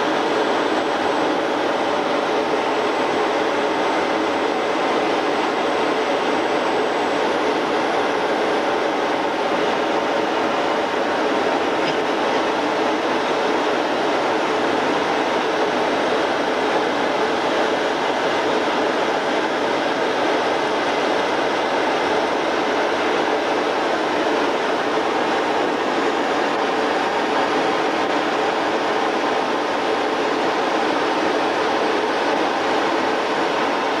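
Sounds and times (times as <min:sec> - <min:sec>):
jet aircraft cabin engine noise: 0:00.0 - 0:34.0.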